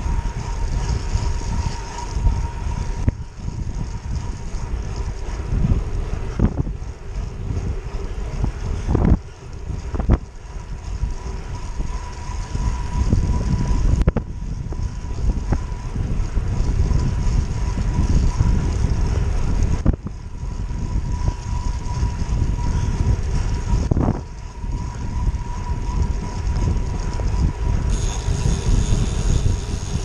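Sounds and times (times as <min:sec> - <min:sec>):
thin steady whine: 0:00.0 - 0:30.0
wind buffeting microphone: 0:00.0 - 0:30.0.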